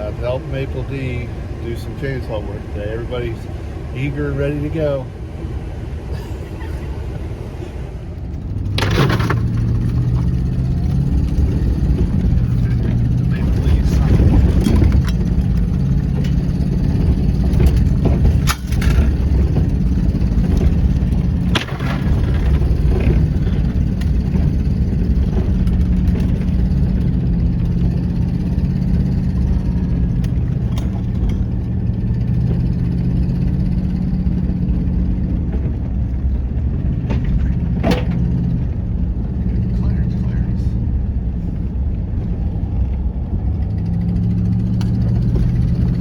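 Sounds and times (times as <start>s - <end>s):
road noise: 0.0s - 46.0s
vehicle engine: 0.0s - 46.0s.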